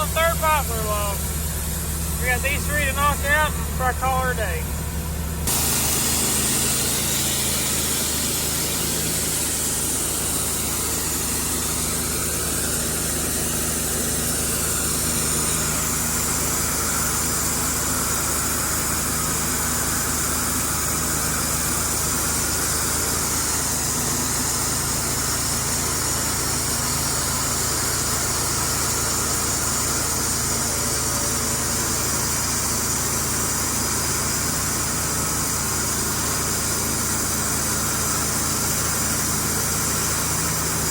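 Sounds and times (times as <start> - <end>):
sawmill engine under load: 0.0 - 40.9.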